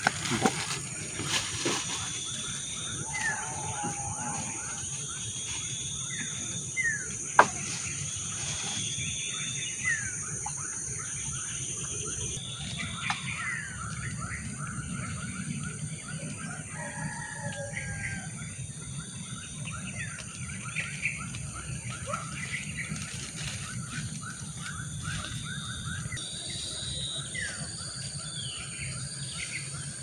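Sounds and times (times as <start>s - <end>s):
insect drone: 0.0s - 30.0s.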